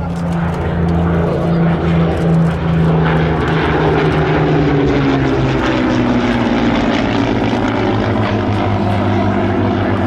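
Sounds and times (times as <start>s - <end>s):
propeller aircraft flying past: 0.0s - 10.0s.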